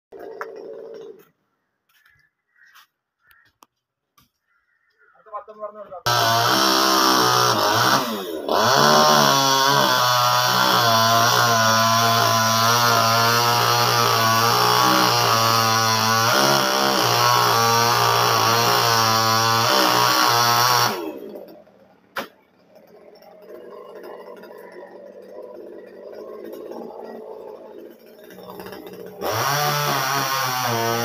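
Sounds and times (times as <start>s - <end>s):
chainsaw running at high revs: 0.1s - 1.2s, 6.1s - 21.7s, 22.6s - 31.0s.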